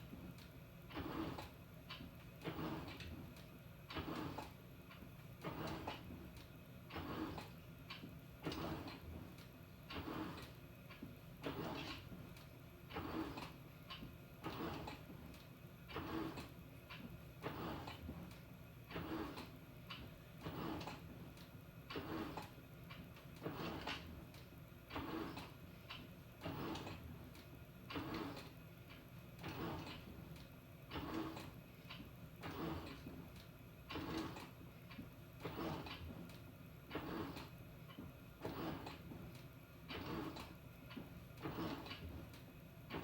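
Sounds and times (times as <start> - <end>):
washing machine churning laundry: 0.0 - 43.0.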